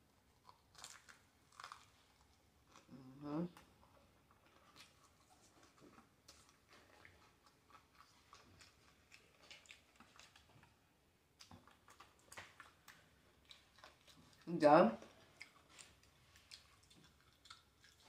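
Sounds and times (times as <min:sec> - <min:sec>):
chewing fried food: 0:00.2 - 0:18.0.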